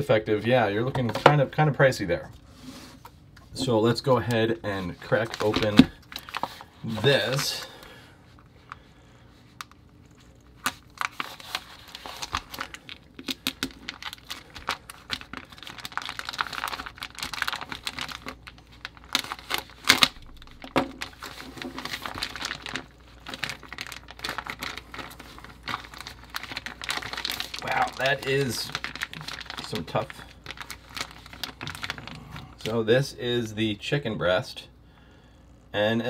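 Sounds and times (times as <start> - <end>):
plastic packaging crinkling: 3.5 - 32.8.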